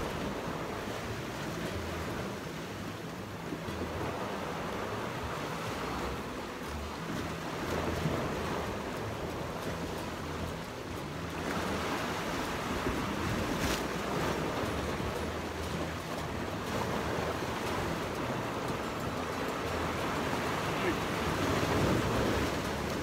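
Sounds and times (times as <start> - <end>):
sea waves washing against rocks: 0.0 - 23.0
wind buffeting microphone: 0.0 - 23.0.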